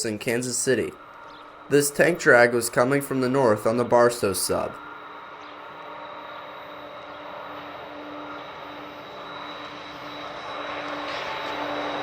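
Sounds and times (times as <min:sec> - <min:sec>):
locomotive engine drone: 0:00.0 - 0:12.0.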